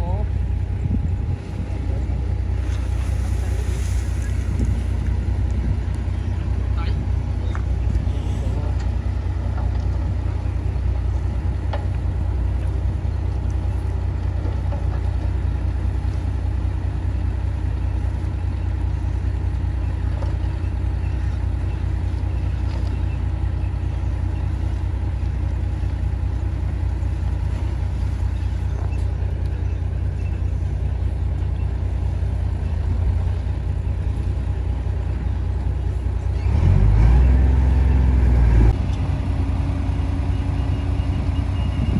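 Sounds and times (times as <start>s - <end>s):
diesel machinery engine rumble: 0.0s - 41.9s.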